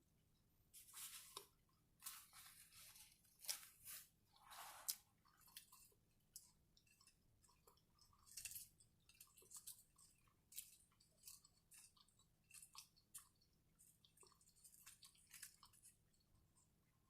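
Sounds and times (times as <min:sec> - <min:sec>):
person chewing food: 0:00.8 - 0:17.0.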